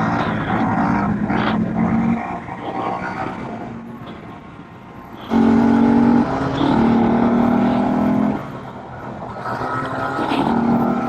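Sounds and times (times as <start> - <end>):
street and engine noise: 0.0 - 11.0.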